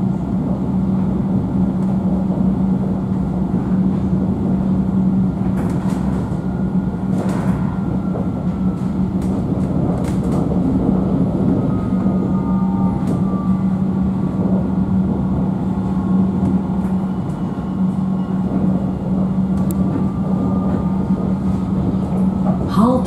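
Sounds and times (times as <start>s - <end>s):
tram running: 0.0s - 23.0s.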